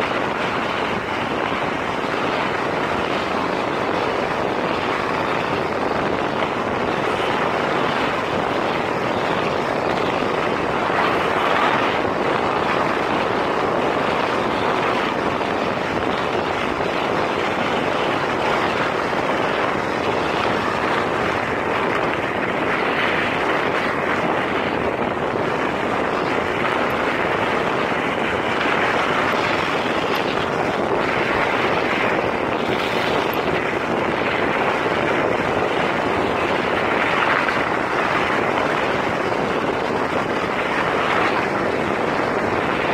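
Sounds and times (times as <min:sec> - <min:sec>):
rushing travel noise: 0:00.0 - 0:42.9.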